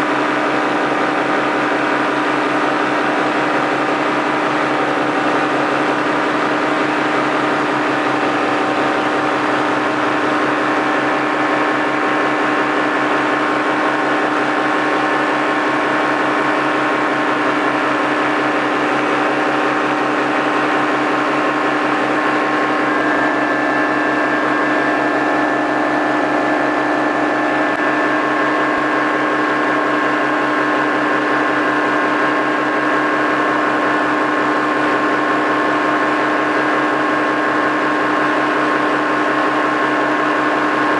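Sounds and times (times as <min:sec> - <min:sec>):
paramotor engine droning: 0:00.0 - 0:40.9.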